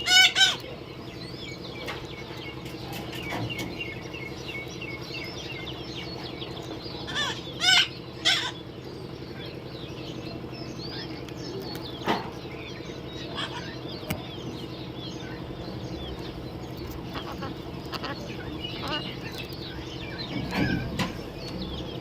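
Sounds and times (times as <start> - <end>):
parrots chirping and calling: 0.0 - 22.0
steady low hum: 0.0 - 22.0.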